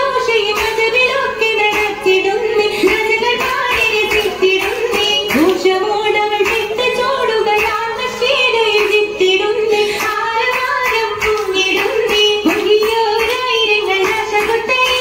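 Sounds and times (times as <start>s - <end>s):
hand claps: 0.1s - 15.0s.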